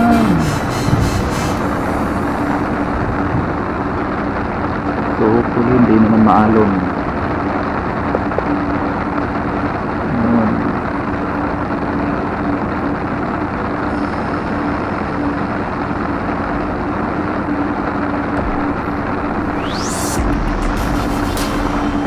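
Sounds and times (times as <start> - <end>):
ship engine idling: 0.0 - 10.1, 10.8 - 22.0.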